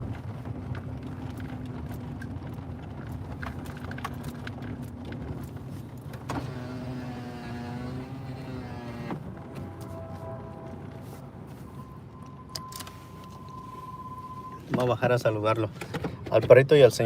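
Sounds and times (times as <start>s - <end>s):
car engine rumble from cabin: 0.0s - 13.9s.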